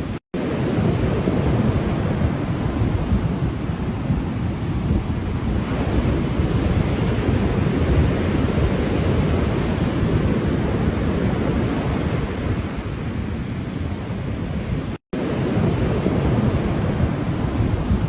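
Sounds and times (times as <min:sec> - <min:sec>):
ocean waves washing: 0:00.0 - 0:18.0.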